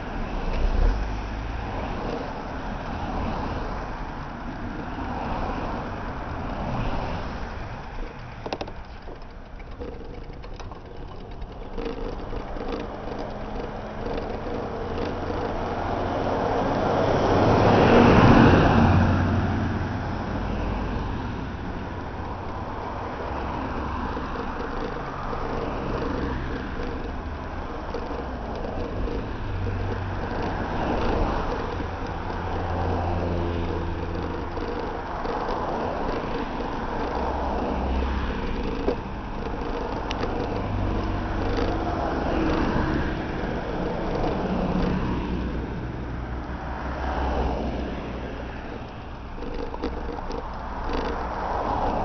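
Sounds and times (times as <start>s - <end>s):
cars passing by: 0.0s - 52.0s.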